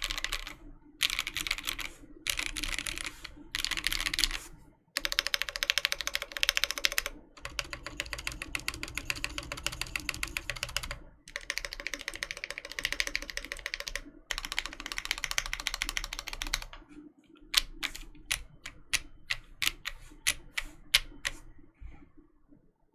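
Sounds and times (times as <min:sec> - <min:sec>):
mechanical keyboard typing: 0:00.0 - 0:16.8, 0:17.4 - 0:21.4.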